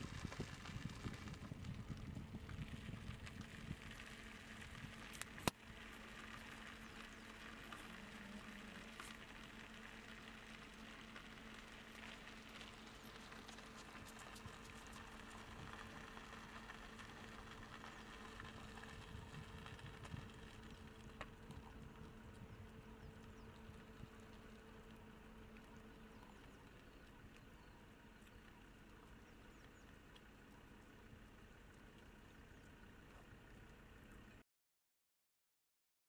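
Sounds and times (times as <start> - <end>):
low steady hum: 0.0 - 34.4.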